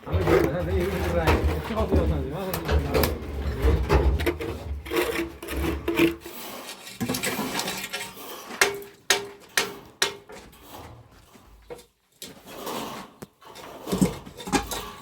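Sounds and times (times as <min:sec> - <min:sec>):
rough scraping and rasping: 0:00.0 - 0:15.0.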